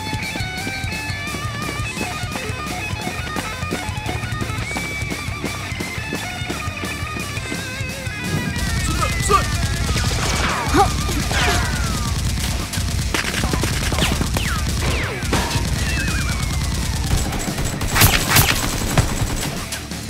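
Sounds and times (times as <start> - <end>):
rapid gunfire sound effects: 0.0 - 20.0.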